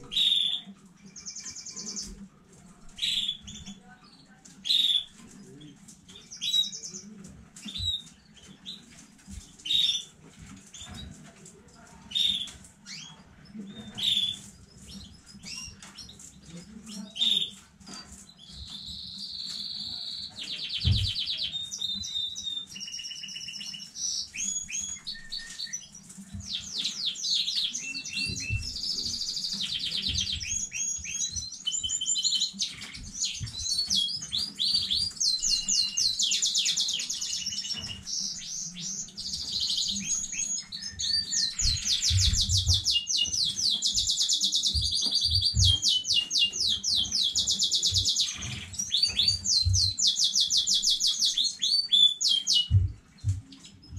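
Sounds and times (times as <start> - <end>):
canary singing trills: 0.0 - 2.2, 2.9 - 11.1, 12.0 - 53.9.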